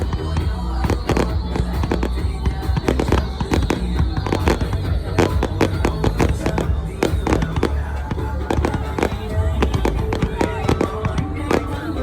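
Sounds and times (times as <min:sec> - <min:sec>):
fireworks bangs and crackles: 0:00.0 - 0:12.0
loud music with heavy bass: 0:00.0 - 0:12.0.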